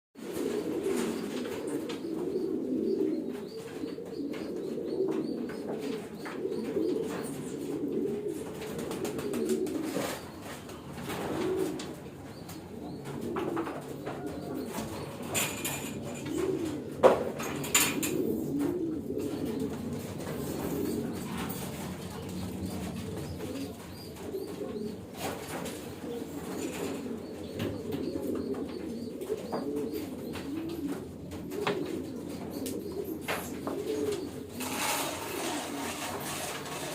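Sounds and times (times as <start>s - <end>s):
pigeons cooing: 0.2s - 36.9s.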